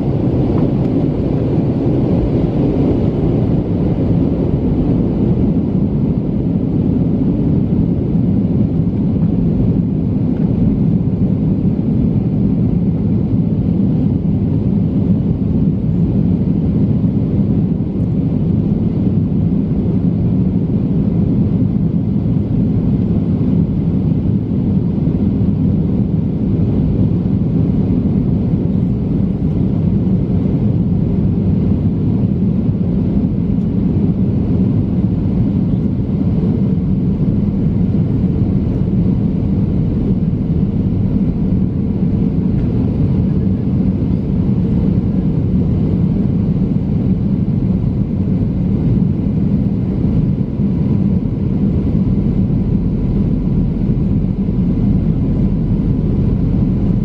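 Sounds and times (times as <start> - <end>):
airplane cabin engine rush: 0.0 - 57.0.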